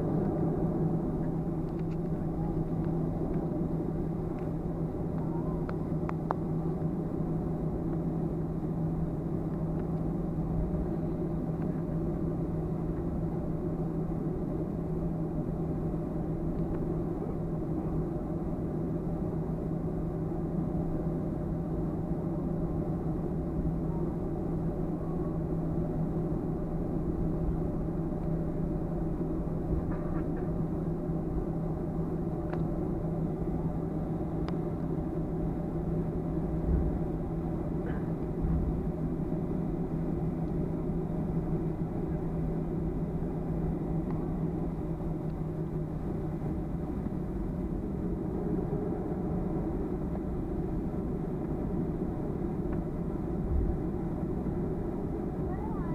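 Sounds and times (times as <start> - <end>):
aircraft cabin drone: 0.0 - 55.9.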